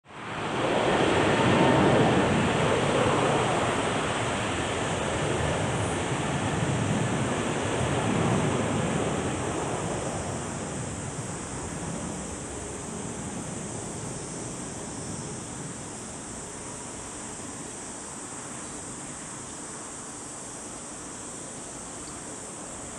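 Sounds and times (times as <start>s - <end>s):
jet engine roar: 0.1s - 20.0s.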